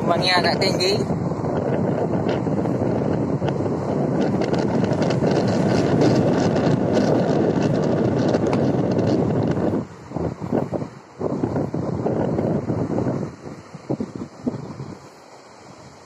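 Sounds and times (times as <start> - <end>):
waves breaking on shore: 0.0 - 16.0
wind buffeting microphone: 0.0 - 16.0.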